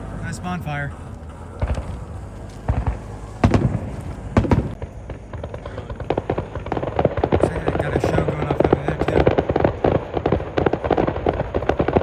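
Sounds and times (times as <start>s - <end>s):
low rumble: 0.0s - 10.6s
fireworks bangs: 0.0s - 12.0s
small firework pops: 1.1s - 12.0s.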